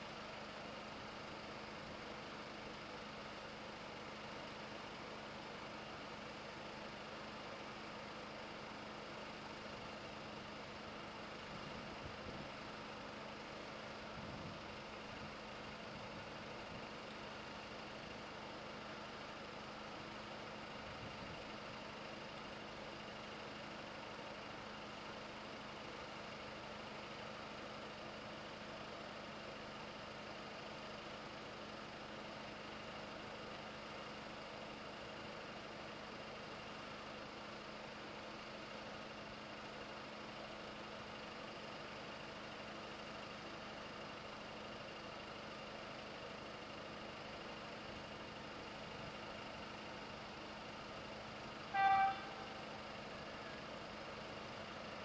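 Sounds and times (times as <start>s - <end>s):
idling road traffic hum: 0.0s - 55.0s.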